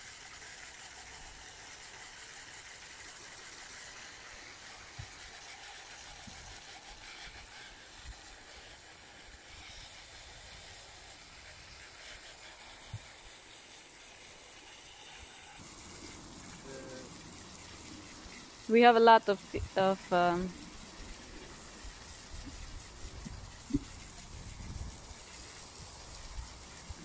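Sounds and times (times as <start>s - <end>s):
water jetting from a hose: 0.0s - 27.0s.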